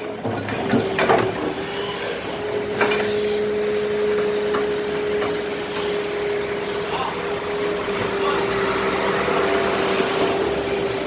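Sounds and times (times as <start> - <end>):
excavator running: 0.0 - 11.0
excavator whine: 0.0 - 11.0.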